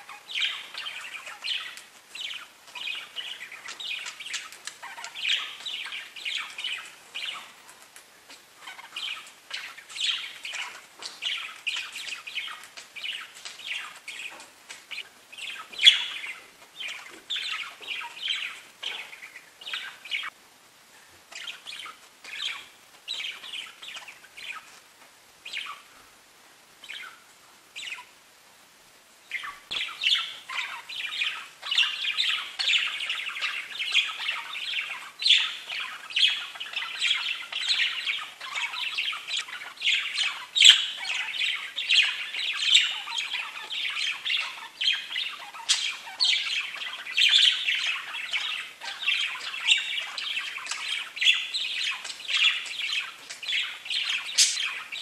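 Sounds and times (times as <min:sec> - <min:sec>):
budgerigars chirping: 0:00.0 - 0:20.4, 0:21.3 - 0:24.8, 0:25.4 - 0:25.9, 0:26.8 - 0:28.2, 0:29.2 - 0:55.0.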